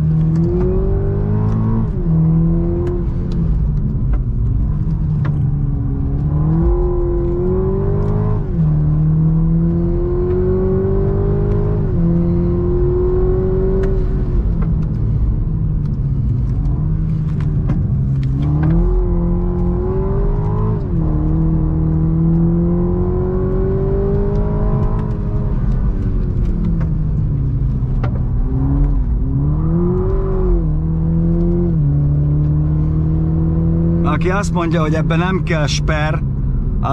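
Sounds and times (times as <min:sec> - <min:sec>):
car engine accelerating: 0:00.0 - 0:36.9.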